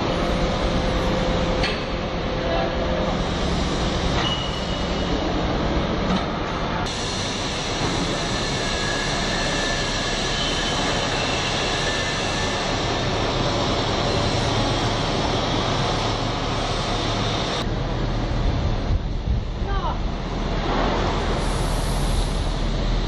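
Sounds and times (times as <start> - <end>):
machinery running: 0.0 - 23.0.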